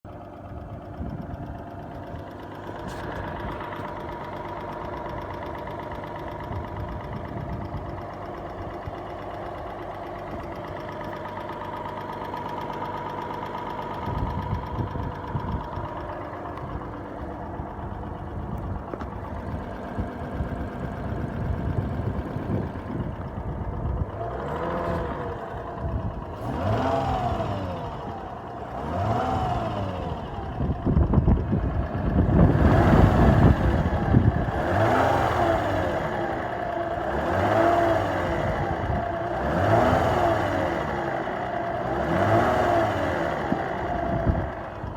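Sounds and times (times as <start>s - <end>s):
car engine running: 0.0s - 44.9s.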